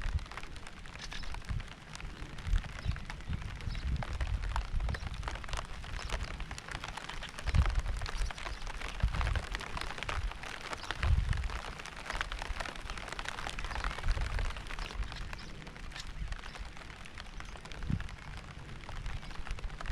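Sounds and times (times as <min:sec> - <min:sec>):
rain pattering: 0:00.0 - 0:19.9.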